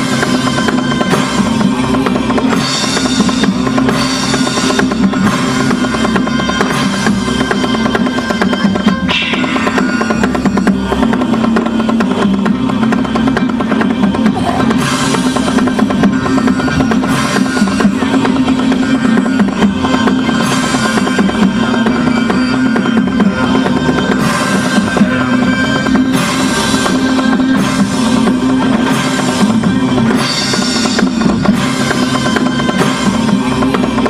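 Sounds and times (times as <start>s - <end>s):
music with fast drumming: 0.0s - 34.0s.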